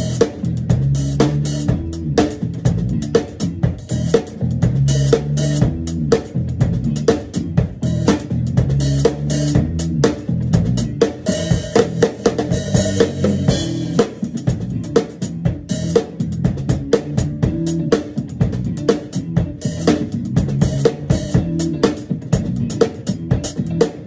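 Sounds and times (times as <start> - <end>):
drum kit funk groove: 0.0 - 24.0.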